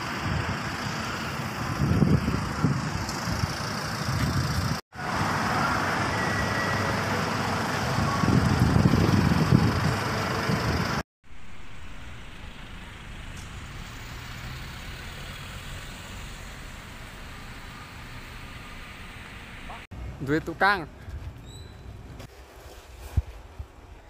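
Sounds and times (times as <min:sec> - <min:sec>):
vehicle engines and traffic rumble: 0:00.0 - 0:24.0.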